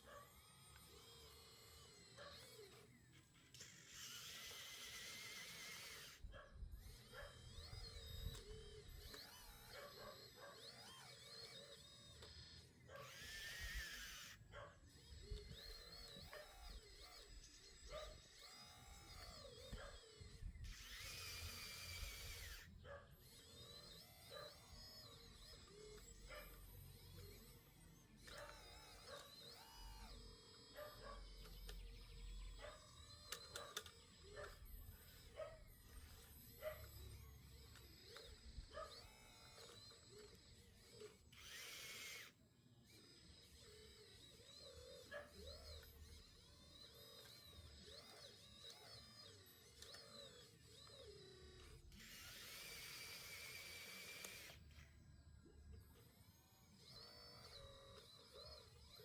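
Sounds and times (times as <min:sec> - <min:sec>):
small electric motor whirring: 0:00.0 - 0:59.0.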